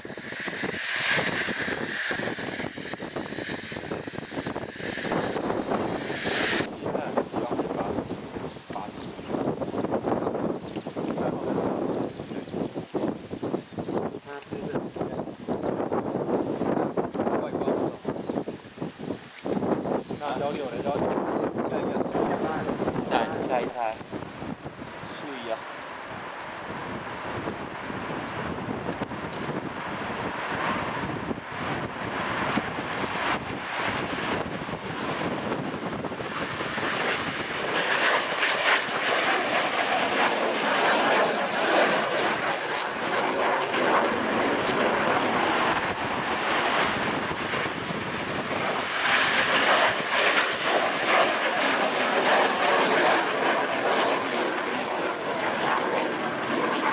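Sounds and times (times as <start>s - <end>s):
fighter jet taking off: 0.0s - 56.9s.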